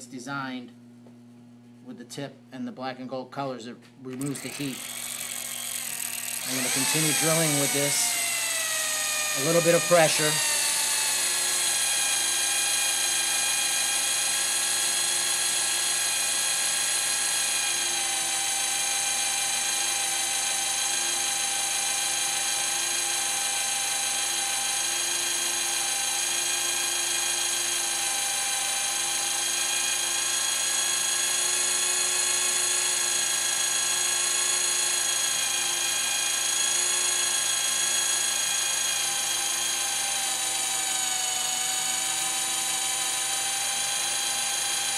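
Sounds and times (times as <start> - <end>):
electric drill whining through steel: 4.1 - 44.9.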